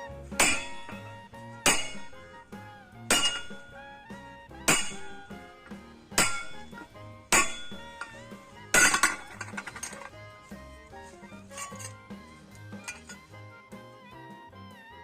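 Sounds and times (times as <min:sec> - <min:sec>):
hammer striking metal: 0:00.0 - 0:12.1, 0:12.7 - 0:13.3
background music: 0:00.0 - 0:15.0.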